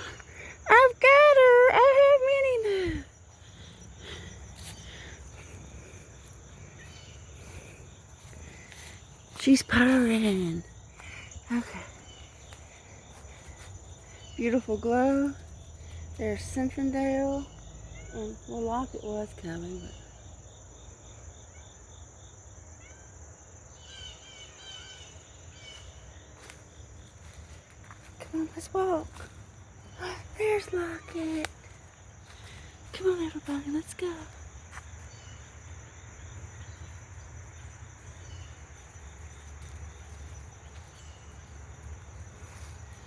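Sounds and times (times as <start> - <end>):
insect chirping: 0.0 - 43.0
insect high trill: 0.0 - 43.0.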